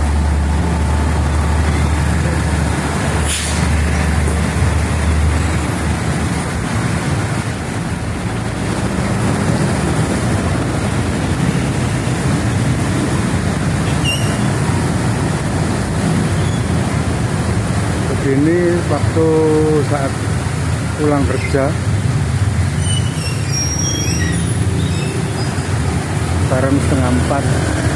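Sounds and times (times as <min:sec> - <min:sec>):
heavy rain pouring: 0:00.0 - 0:27.9
traffic engines humming: 0:00.0 - 0:27.9.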